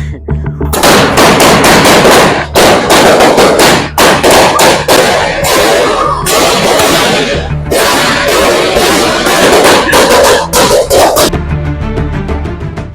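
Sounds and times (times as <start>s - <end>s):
firework bangs and crackles: 0.8s - 11.3s.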